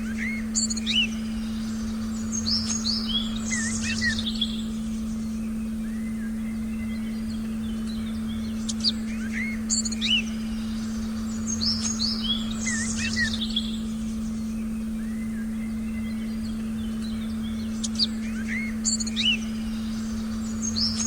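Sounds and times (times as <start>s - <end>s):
birds chirping and whistling: 0.0s - 21.0s
steady low tone: 0.0s - 21.0s.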